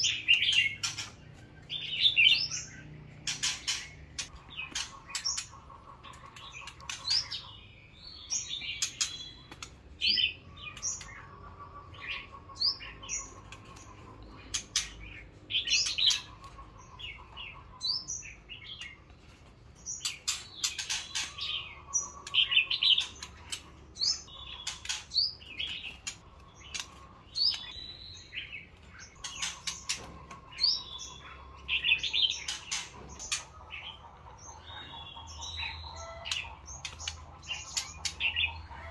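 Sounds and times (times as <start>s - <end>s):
birds chirping and whistling: 0.0s - 38.9s.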